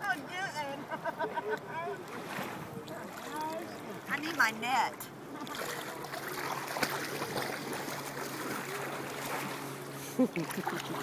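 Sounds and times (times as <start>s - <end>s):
water at the shore: 0.0s - 11.0s
wind: 0.0s - 11.0s.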